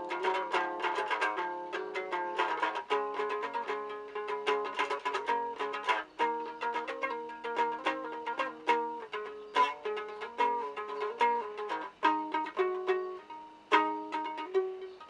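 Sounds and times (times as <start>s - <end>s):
plucked lute strummed rhythmically: 0.0s - 15.0s.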